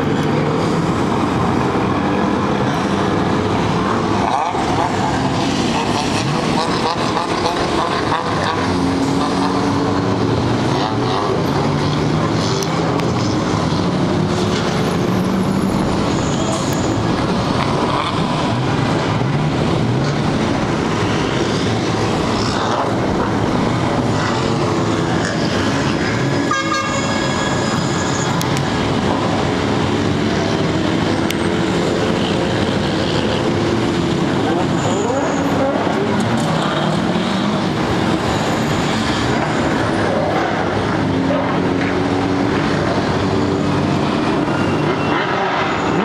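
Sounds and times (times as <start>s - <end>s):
car engines accelerating: 0.0s - 46.0s.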